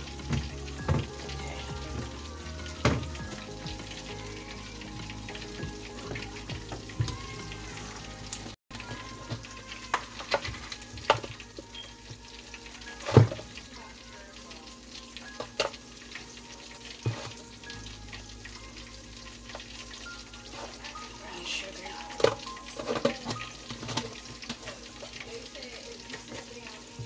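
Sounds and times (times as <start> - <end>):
food sizzling: 0.0 - 27.0.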